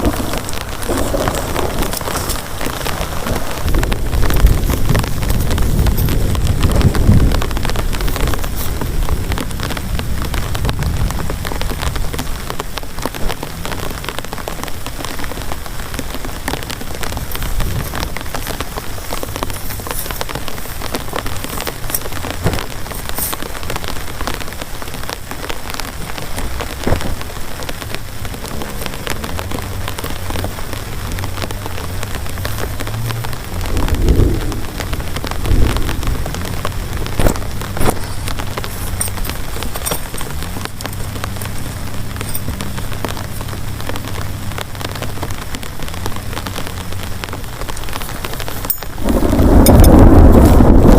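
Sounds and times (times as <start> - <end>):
deep low rumbles: 0.0 - 50.9
heavy rain falling: 0.0 - 50.9.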